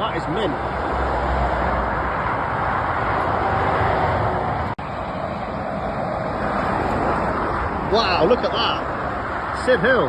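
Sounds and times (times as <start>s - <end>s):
motorway traffic passing: 0.0s - 10.0s.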